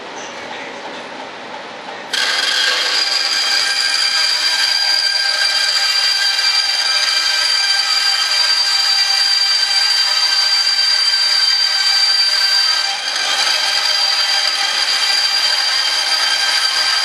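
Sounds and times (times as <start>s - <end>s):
power saw whining: 2.1s - 17.0s.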